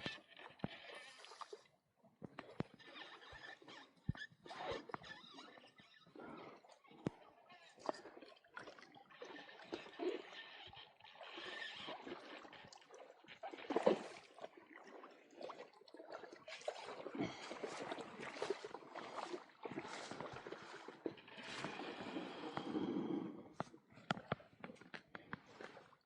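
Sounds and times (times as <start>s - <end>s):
shallow water sloshing: 0.1s - 26.0s.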